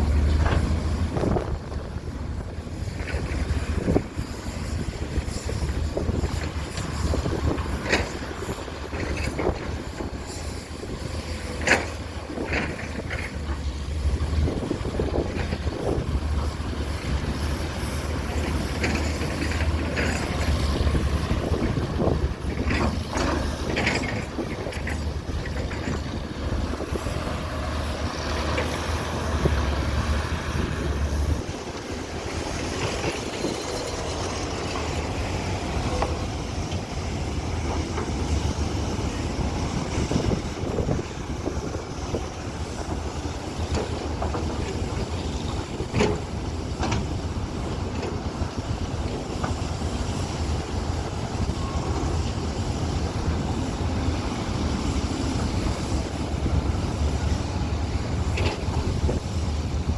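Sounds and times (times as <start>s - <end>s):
excavator diesel engines running: 0.0s - 59.9s.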